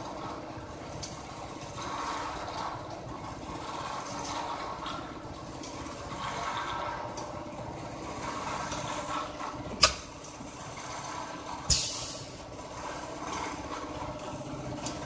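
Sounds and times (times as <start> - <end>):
machine clacks: 0.0 - 15.0.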